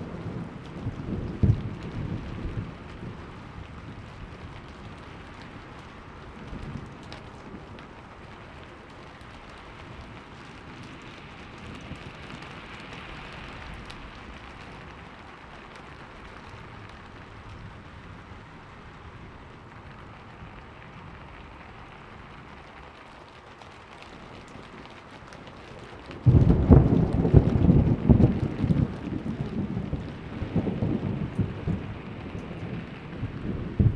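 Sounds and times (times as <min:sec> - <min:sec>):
thunder clap rumbling: 0:00.0 - 0:23.3, 0:23.9 - 0:33.9
steady rainfall: 0:00.0 - 0:33.9.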